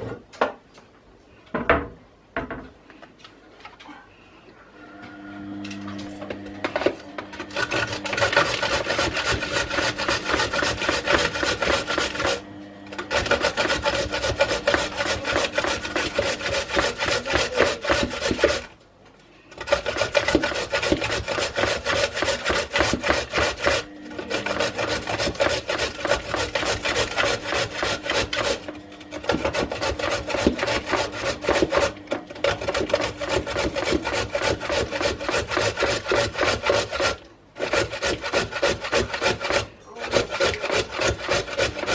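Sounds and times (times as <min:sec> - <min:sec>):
carrot grated on metal grater: 0:05.8 - 0:18.7, 0:19.5 - 0:41.9.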